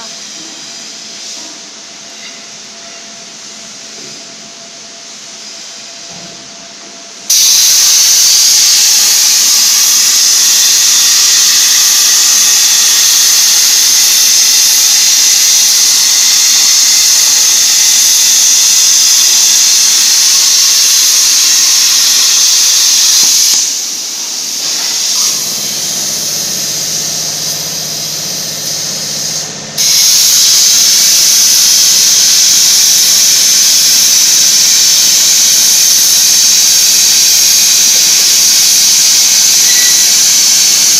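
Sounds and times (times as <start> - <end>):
low machine hum: 0.0 - 38.0
plasma torch hissing: 7.3 - 40.9.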